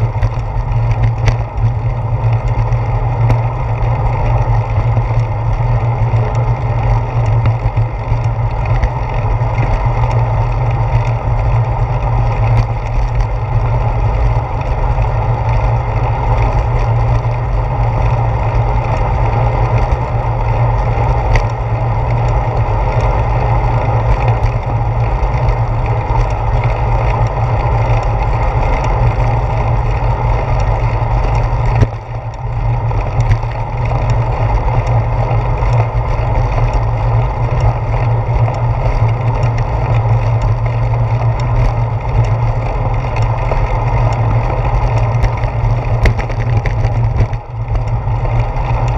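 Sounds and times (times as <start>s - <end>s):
bicycle road rumble: 0.0s - 48.9s
wind: 0.0s - 48.9s.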